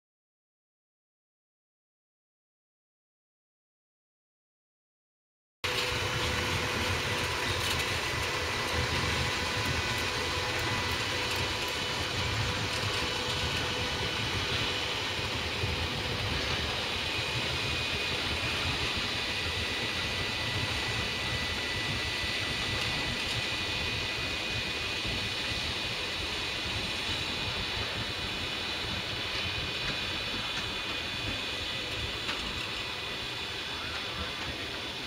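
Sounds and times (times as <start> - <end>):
wagons rolling on rails: 5.7 - 23.4, 24.0 - 35.0.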